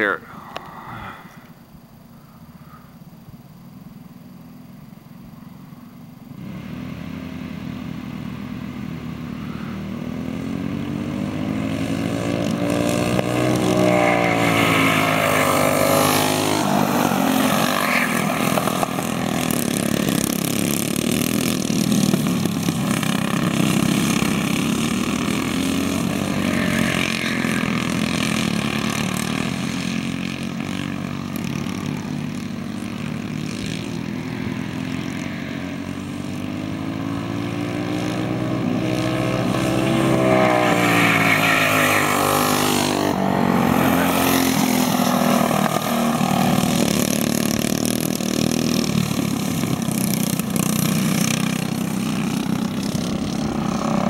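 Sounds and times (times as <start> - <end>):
kart engines passing: 0.0 - 54.0.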